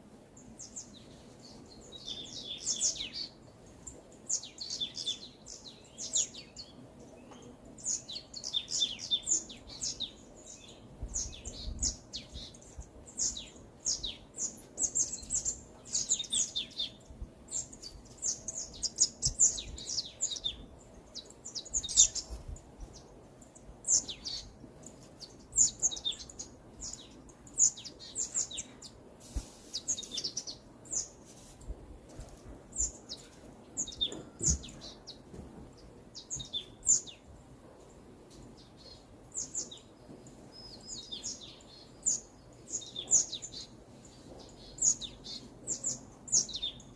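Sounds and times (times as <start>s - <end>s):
songbirds chirping and singing: 0.0s - 46.9s.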